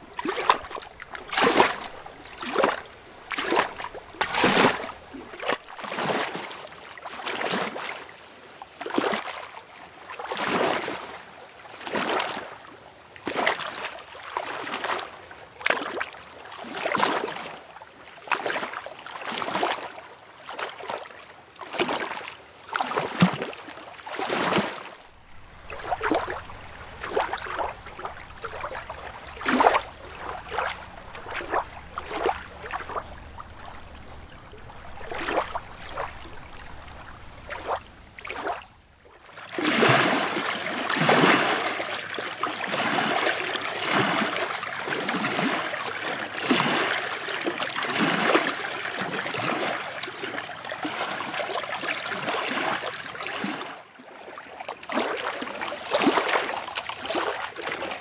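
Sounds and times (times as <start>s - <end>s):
lake water lapping and splashing: 0.0s - 58.0s.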